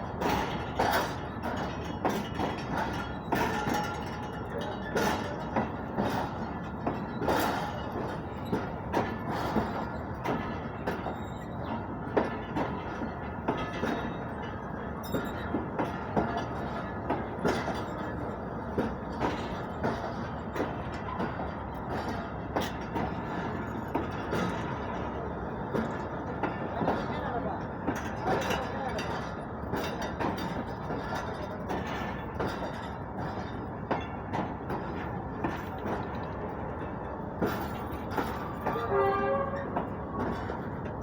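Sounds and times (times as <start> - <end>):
steady rumble of rolling coaches: 0.0 - 41.0
train wheels clattering and clanking: 0.0 - 41.0.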